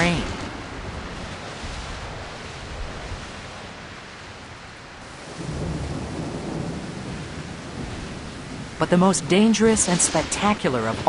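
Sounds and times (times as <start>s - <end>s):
heavy rain: 0.0s - 11.0s
thunder rumbling: 0.0s - 11.0s.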